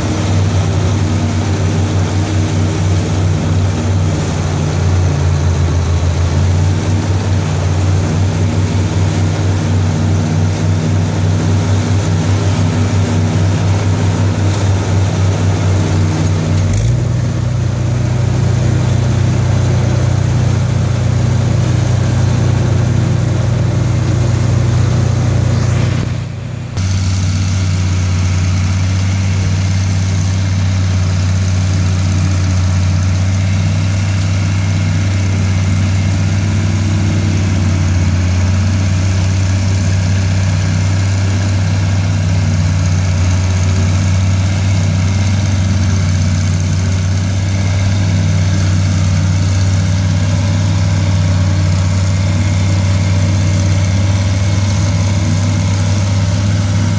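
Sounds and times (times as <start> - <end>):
forage harvester chopping corn: 0.0 - 56.9
tractor engine under load: 0.0 - 56.9.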